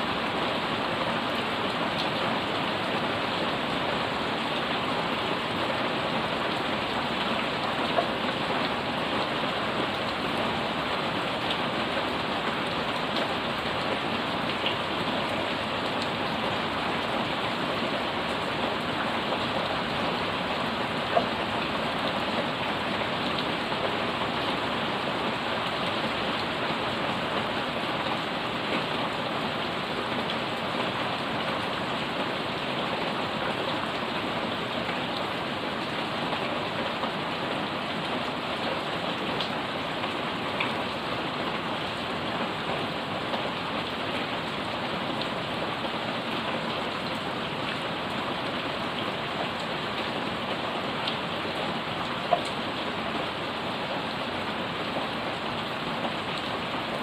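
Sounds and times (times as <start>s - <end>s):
heavy rain on plants and pavement: 0.0s - 57.0s.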